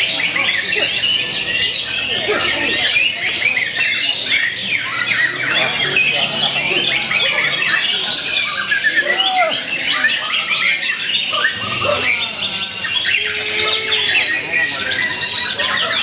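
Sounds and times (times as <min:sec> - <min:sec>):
bird singing rapid chirps and trills: 0:00.0 - 0:16.0
chorus of other birds: 0:00.0 - 0:16.0.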